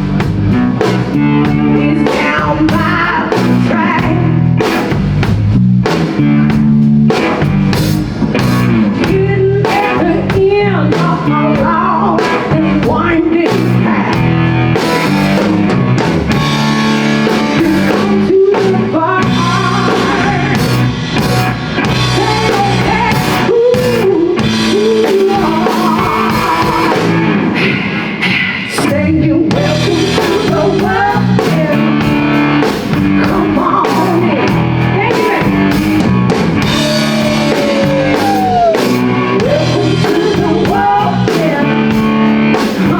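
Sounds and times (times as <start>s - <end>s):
bass guitar: 0.0s - 42.9s
drum kit: 0.0s - 42.9s
electric guitar bending lead: 0.0s - 42.9s.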